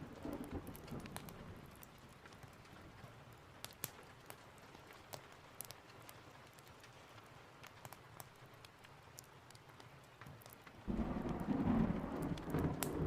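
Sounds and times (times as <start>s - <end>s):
faint rain hiss: 0.0s - 13.0s.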